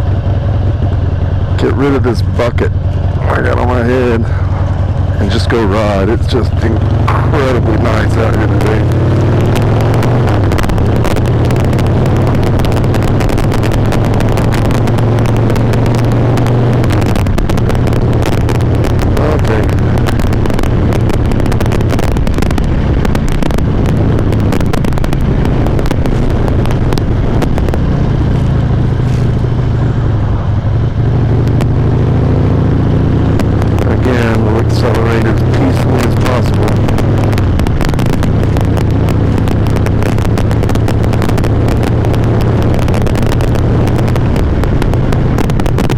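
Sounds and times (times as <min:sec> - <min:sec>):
motorcycle engine running: 0:00.0 - 0:45.9
crackling clicks: 0:00.1 - 0:45.9.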